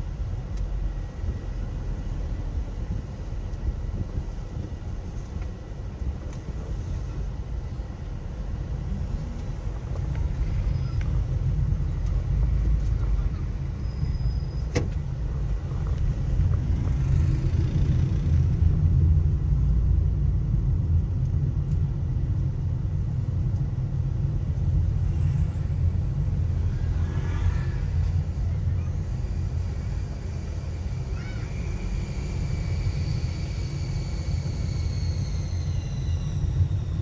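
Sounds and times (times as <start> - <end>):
car engine rumble: 0.0 - 37.0.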